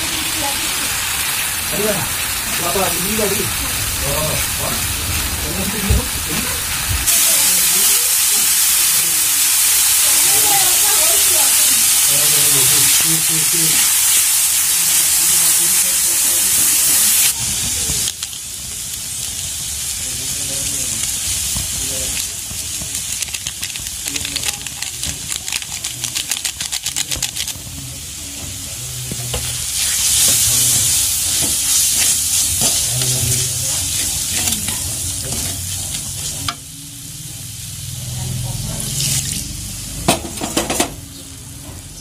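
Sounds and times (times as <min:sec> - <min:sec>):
vegetables sizzling in a pan: 0:00.0 - 0:42.0.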